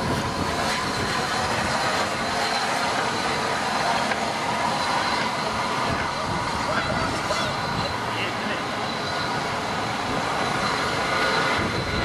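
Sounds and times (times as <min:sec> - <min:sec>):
steady hiss of steam: 0:00.0 - 0:12.0
steam locomotive moving off: 0:00.0 - 0:12.0.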